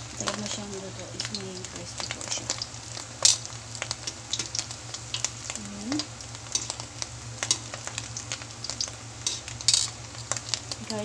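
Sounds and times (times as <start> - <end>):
patties frying in hot oil: 0.0 - 11.0
steady low hum: 0.0 - 11.0
utensil stirring in a wok: 0.0 - 11.0.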